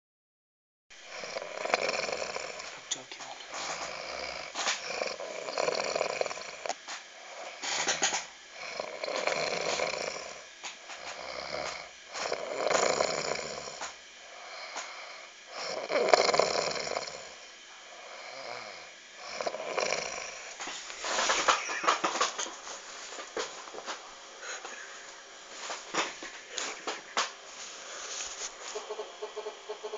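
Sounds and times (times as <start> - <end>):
heavy snoring: 1.0 - 29.9.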